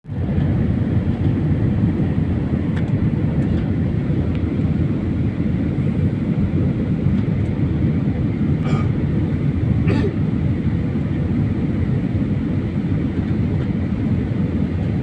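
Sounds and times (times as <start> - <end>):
airliner jet engine rumble: 0.0 - 15.0.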